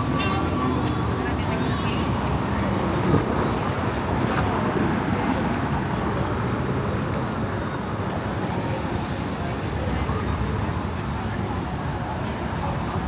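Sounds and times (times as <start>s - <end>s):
faint indistinct voices: 0.0s - 13.0s.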